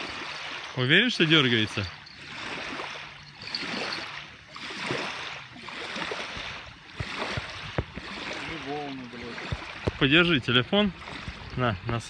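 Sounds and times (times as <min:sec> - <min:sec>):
small waves lapping on a bank: 0:00.0 - 0:12.0.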